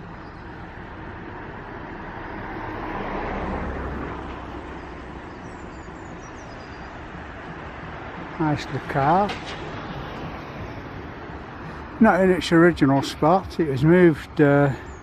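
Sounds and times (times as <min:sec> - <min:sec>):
road vehicle passing close by: 0:00.0 - 0:15.0
traffic hum: 0:00.0 - 0:15.0.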